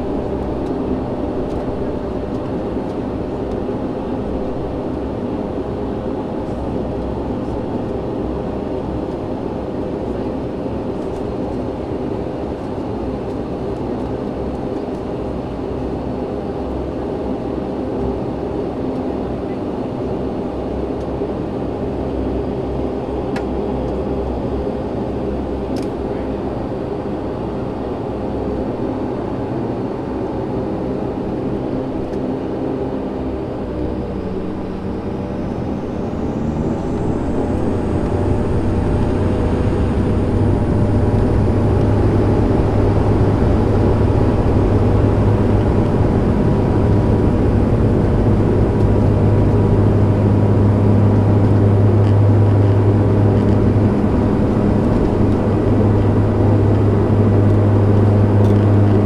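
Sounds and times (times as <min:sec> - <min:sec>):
turboprop engines droning in cabin: 0:00.0 - 0:59.0.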